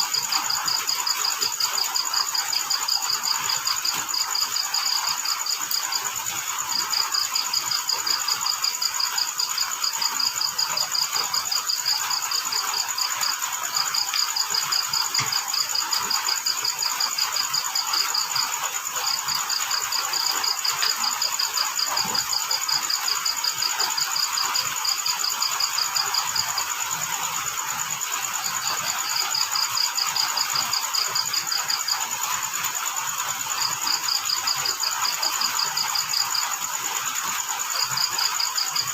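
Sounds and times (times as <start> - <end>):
constant hiss: 0.0 - 38.9
crickets chirping: 0.0 - 38.9
high-pitched insect trill: 0.0 - 38.9.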